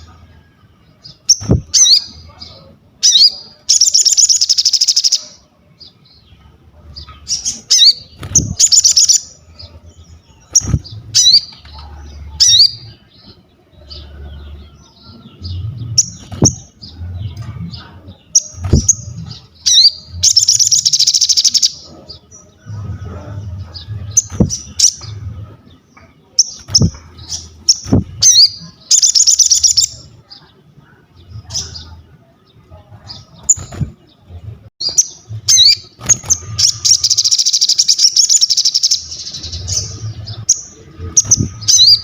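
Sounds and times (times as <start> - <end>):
bird singing high chirps: 0.0 - 30.6, 34.8 - 42.0.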